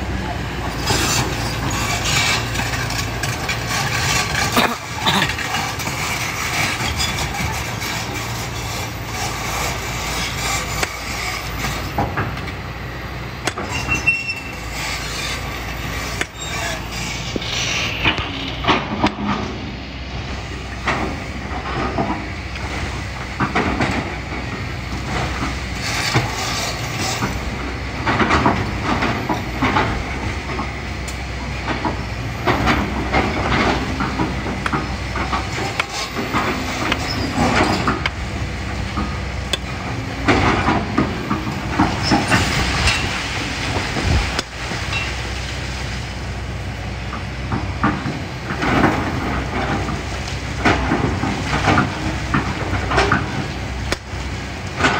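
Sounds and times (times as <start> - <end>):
diesel engine hum: 0.0 - 54.9
excavator bucket clanking and scraping: 0.0 - 54.9.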